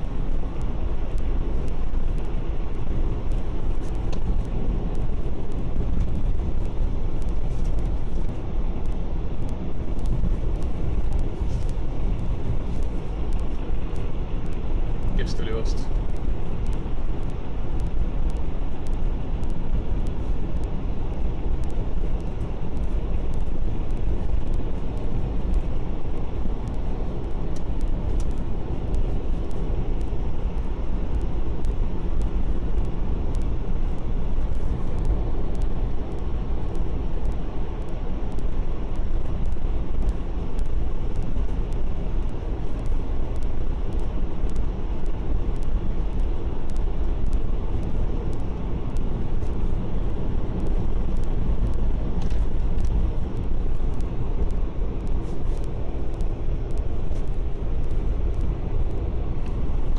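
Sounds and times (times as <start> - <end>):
car engine and tyre rumble: 0.0 - 59.9
faint ticks: 0.5 - 59.9.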